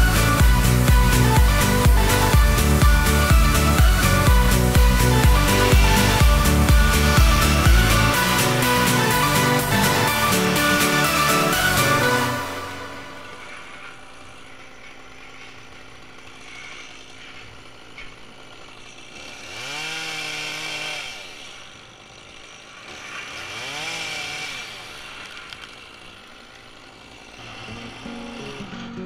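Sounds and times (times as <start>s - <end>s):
chainsaw idling and revving: 0.0s - 29.0s.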